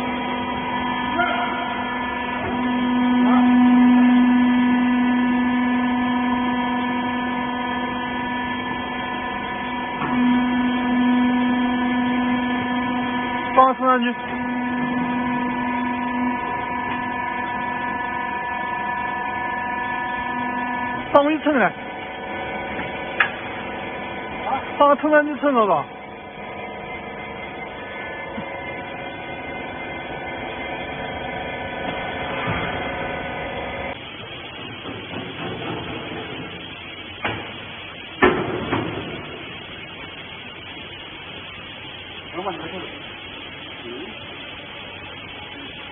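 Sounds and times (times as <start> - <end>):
hydraulic motor and pump humming: 0.0 - 45.9.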